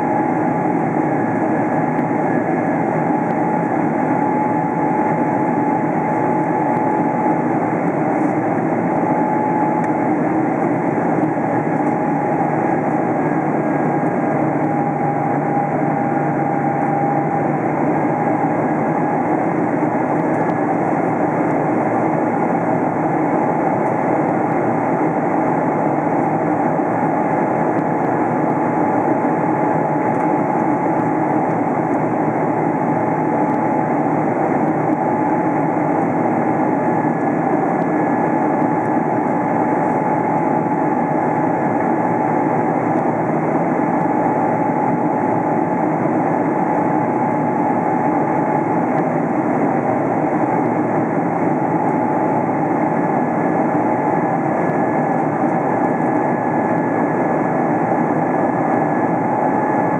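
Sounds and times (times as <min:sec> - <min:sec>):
airliner cabin rumble and airflow: 0:00.0 - 0:59.9.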